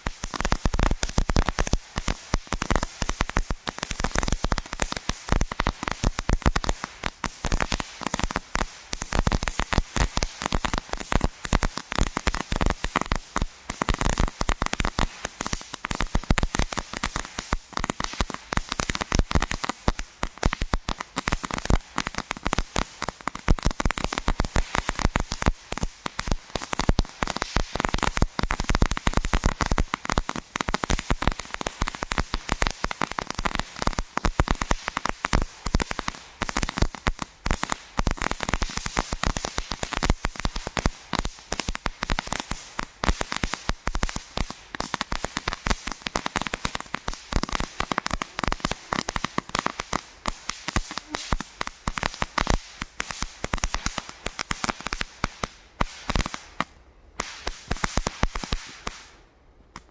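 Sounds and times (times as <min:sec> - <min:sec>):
crackling fountain fireworks: 0:00.0 - 0:59.9.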